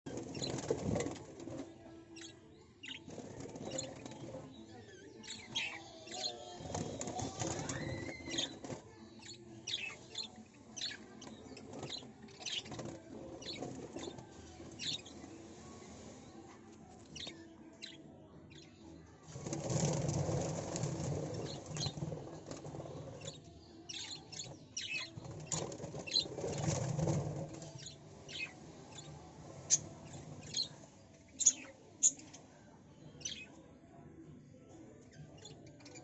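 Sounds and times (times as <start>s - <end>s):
birds chirping: 0.0s - 33.7s, 34.5s - 36.0s.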